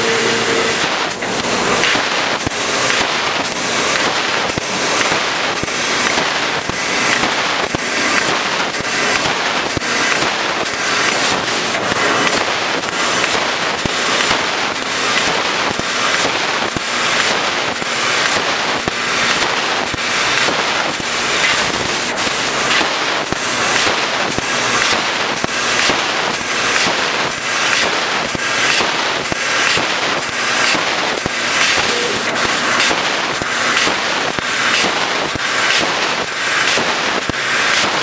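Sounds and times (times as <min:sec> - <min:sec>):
laser cutting jet hissing: 0:00.0 - 0:38.0.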